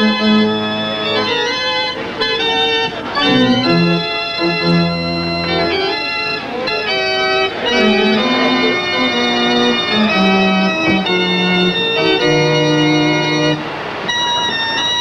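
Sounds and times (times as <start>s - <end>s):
organ music: 0.0s - 15.0s.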